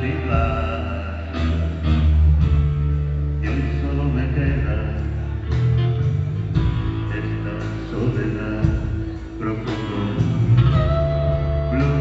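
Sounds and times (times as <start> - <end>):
bass: 0.0 - 12.0
drums: 0.0 - 12.0
electric guitars: 0.0 - 12.0.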